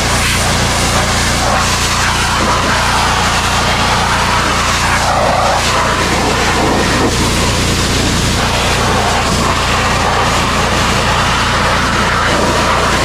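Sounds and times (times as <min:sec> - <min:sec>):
pressure washer motor humming: 0:00.0 - 0:13.0
water jet hissing: 0:00.0 - 0:13.0.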